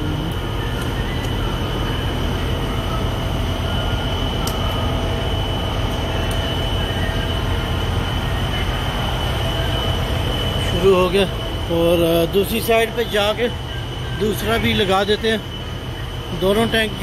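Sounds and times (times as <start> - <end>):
constant high-pitched whine: 0.0 - 17.0
diesel pump rushing and rumbling: 0.0 - 17.0.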